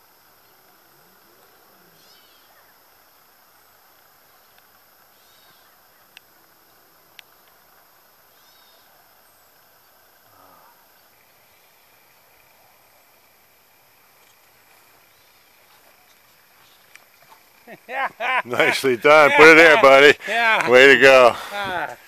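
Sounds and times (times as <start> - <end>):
low hiss: 0.0 - 22.0.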